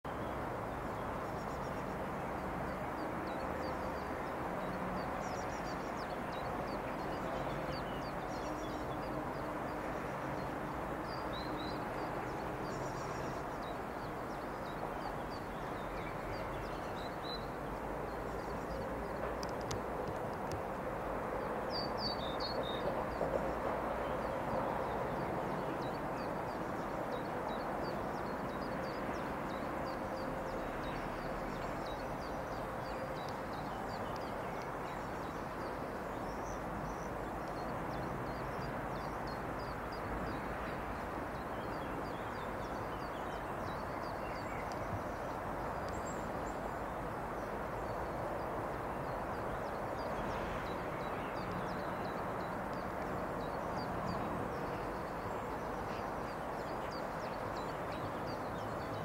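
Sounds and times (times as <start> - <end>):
outdoor background noise: 0.0 - 59.0
small birds chirping: 3.0 - 59.0.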